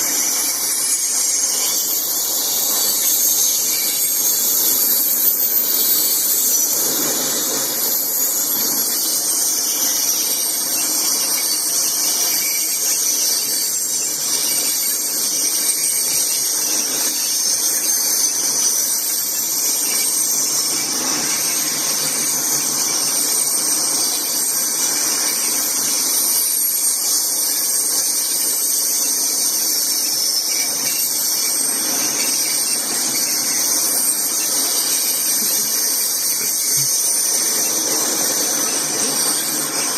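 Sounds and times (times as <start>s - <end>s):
faint wheel squeal: 0.0s - 39.9s
train wheels hissing on rails: 0.0s - 39.9s.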